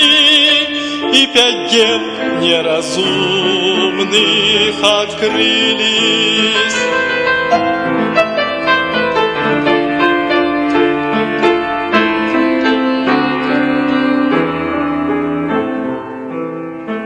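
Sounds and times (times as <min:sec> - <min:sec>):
piano playing chords: 0:00.0 - 0:17.0.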